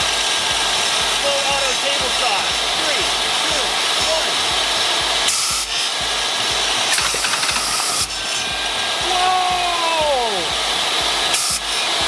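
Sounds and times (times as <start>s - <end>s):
fire extinguisher hissing: 0.0s - 12.0s
table saw running: 0.0s - 12.0s.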